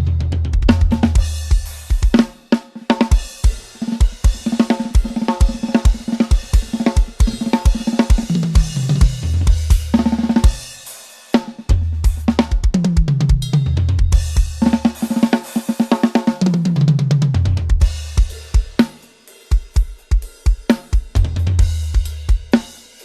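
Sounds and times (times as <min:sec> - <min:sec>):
drum kit groove: 0:00.0 - 0:23.0.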